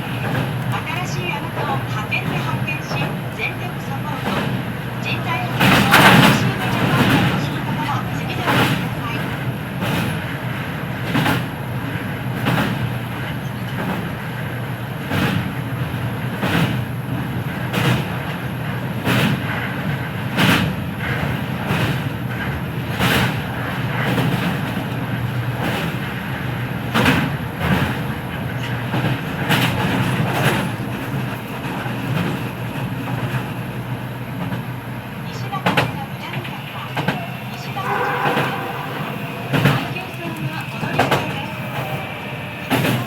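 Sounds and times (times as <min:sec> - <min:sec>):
wheels clicking over rail joints: 0:00.0 - 0:38.3
train underfloor rumble: 0:00.0 - 0:43.0.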